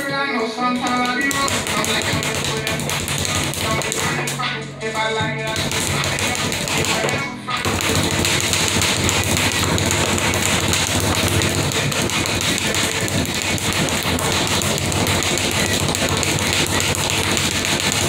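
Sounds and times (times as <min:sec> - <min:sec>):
speed bag rattling: 0:00.8 - 0:04.2, 0:05.5 - 0:18.0.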